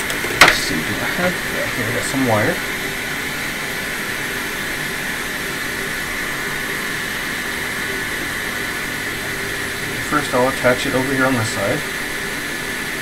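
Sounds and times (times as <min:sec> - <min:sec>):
fan rushing: 0:00.0 - 0:13.0.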